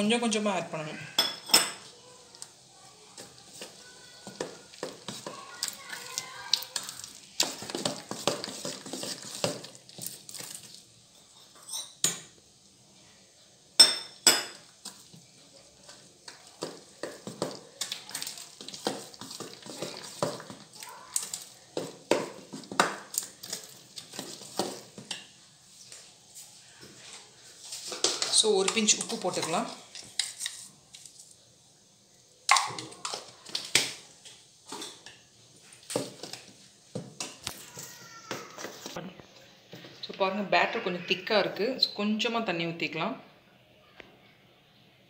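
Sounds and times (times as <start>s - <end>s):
spoon stirring thick batter: 0.2s - 41.5s.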